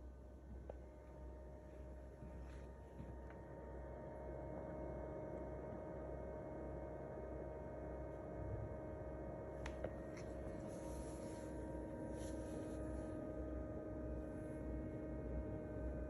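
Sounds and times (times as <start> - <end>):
refrigerator hum: 0.0 - 16.0.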